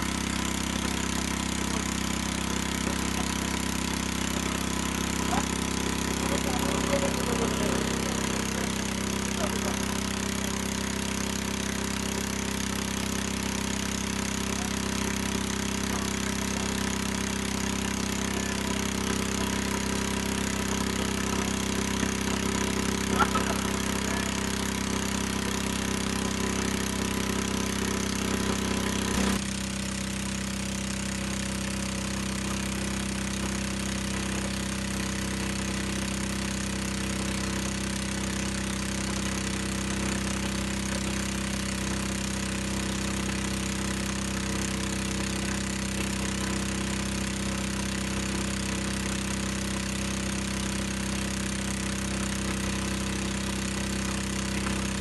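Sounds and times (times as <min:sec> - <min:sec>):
small pump engine running: 0:00.0 - 0:55.0.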